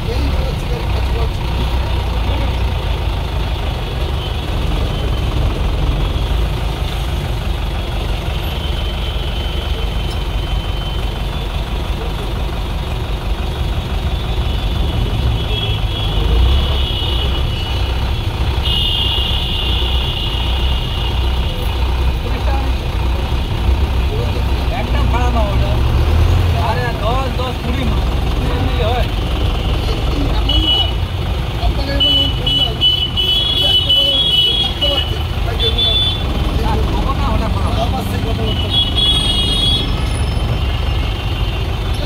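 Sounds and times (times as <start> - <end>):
road noise: 0.0 - 42.0
vehicle engine rumble: 0.0 - 42.0.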